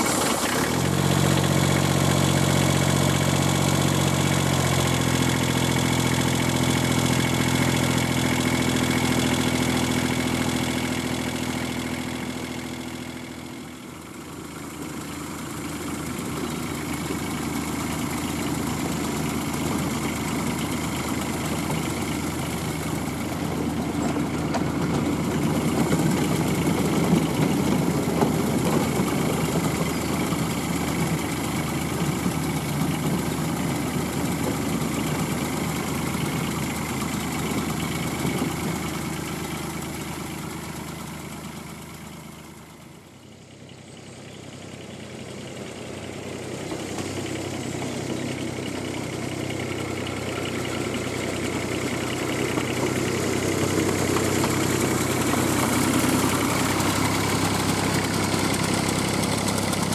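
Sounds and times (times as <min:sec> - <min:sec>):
diesel locomotive engine idling: 0:00.0 - 0:59.9.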